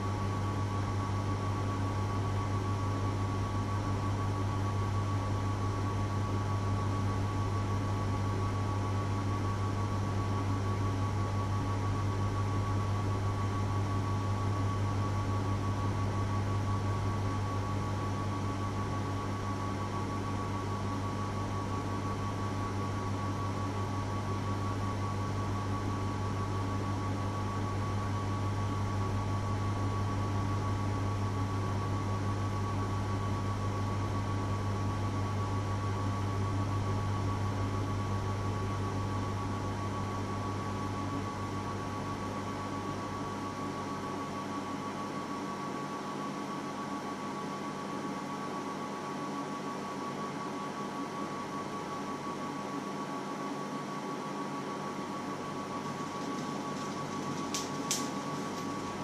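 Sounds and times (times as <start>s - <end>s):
electrical appliance hum: 0.0s - 59.0s.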